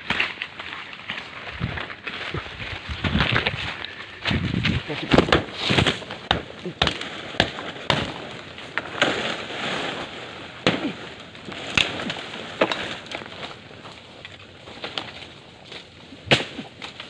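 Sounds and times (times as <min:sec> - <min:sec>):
sharp knocks and cracks: 0:00.0 - 0:02.3, 0:04.2 - 0:09.5, 0:10.6 - 0:17.0.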